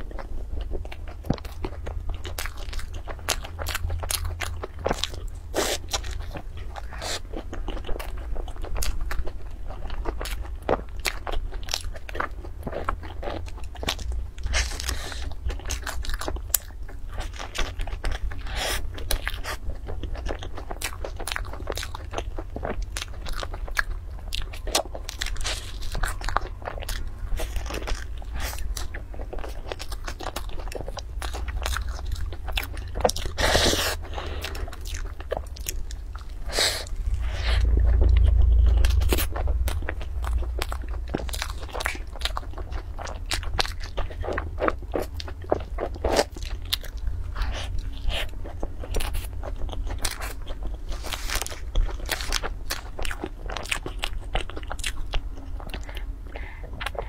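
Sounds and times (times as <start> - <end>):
chewing pastry with crunches: 0.0 - 57.0.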